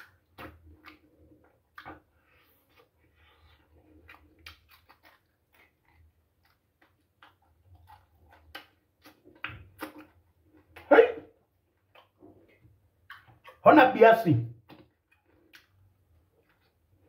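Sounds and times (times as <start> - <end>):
chewing and mouth smacks: 0.0 - 10.9, 11.6 - 13.6, 14.6 - 17.0.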